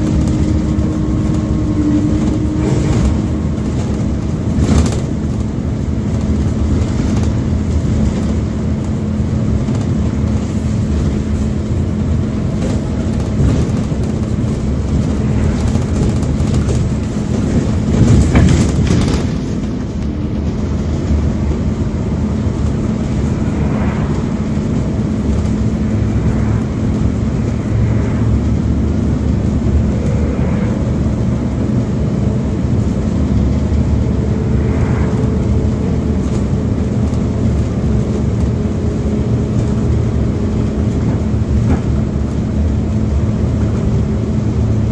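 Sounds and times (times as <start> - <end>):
bus engine drone: 0.0 - 44.9
road noise: 0.0 - 44.9.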